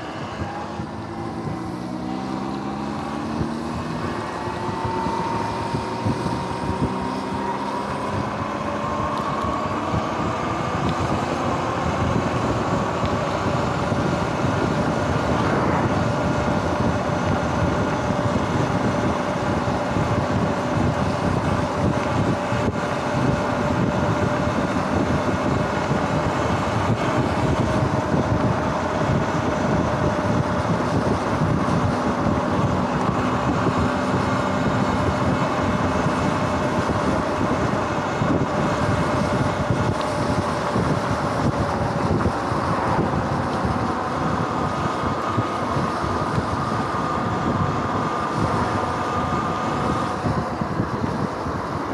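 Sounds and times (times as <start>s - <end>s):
electric motor whine: 0.0s - 51.9s
wind rush on microphone: 0.0s - 51.9s.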